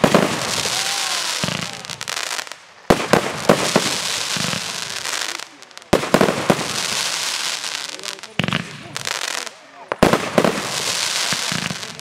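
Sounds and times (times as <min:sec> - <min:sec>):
fireworks bangs: 0:00.0 - 0:12.0
fireworks pops and crackling: 0:00.0 - 0:12.0.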